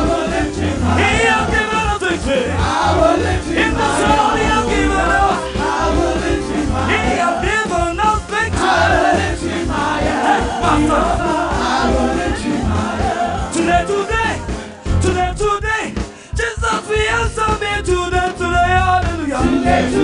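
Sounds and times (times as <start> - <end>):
voices singing: 0.0 - 15.3, 16.5 - 20.0
band with strong bass line: 0.0 - 20.0.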